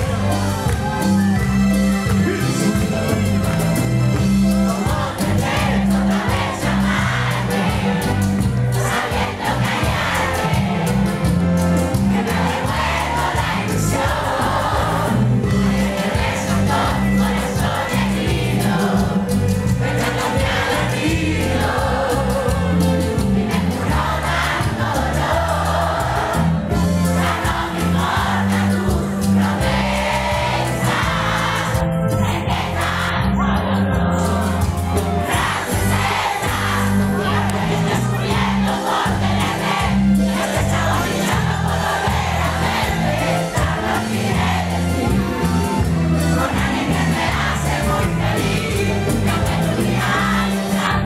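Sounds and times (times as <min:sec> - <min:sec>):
live band playing: 0:00.0 - 0:51.0
strong steady bass line: 0:00.0 - 0:51.0
many voices singing along: 0:02.2 - 0:51.0.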